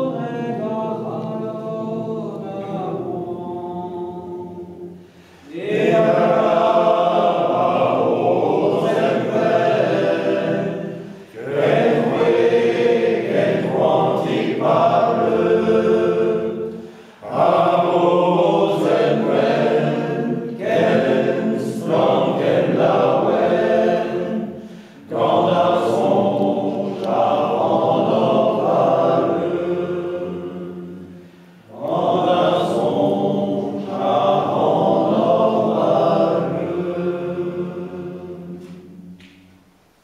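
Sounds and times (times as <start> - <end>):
men's choir singing a cappella: 0.0 - 39.2.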